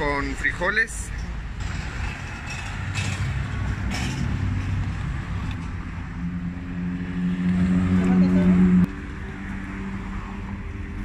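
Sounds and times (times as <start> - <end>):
street noise: 0.0 - 11.0
vehicle engine humming: 1.1 - 11.0.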